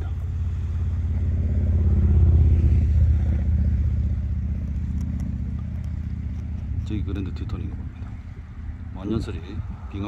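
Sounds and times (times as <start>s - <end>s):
car engine hum: 0.0s - 10.0s
road noise: 0.0s - 10.0s.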